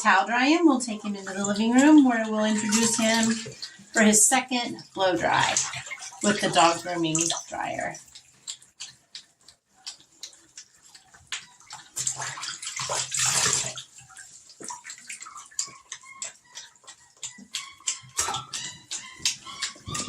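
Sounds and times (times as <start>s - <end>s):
water splashing in a bathtub: 0.0s - 20.0s.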